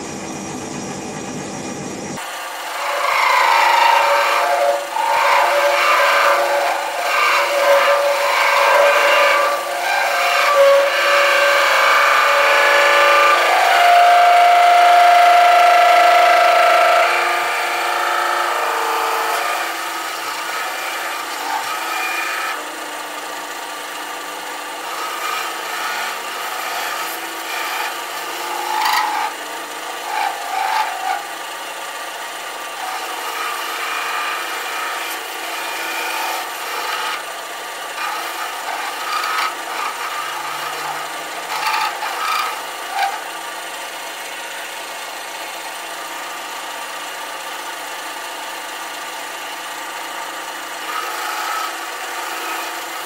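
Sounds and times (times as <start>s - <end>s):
lathe running hum: 0.0s - 53.0s
lathe tool scraping metal: 2.2s - 53.0s.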